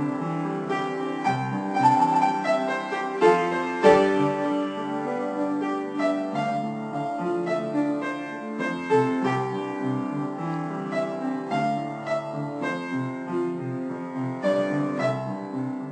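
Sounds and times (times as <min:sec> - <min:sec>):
piano music: 0:00.0 - 0:15.9.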